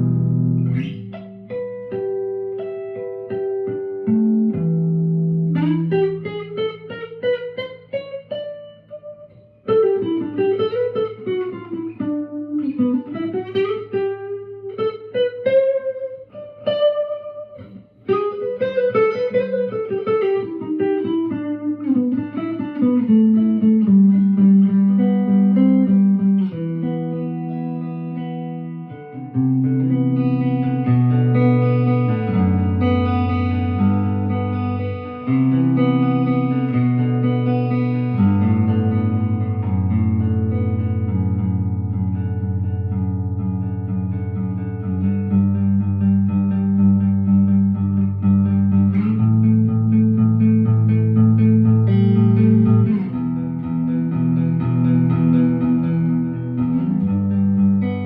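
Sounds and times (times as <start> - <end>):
electric guitar playing: 0.0 - 58.0.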